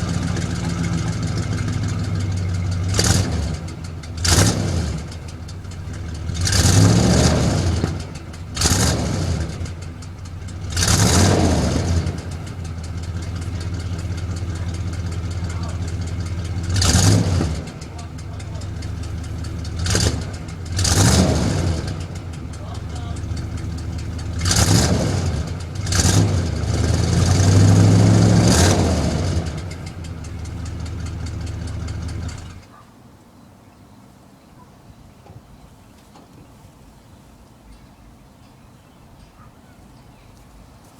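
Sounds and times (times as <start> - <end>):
car engine idling and revving: 0.0 - 32.8.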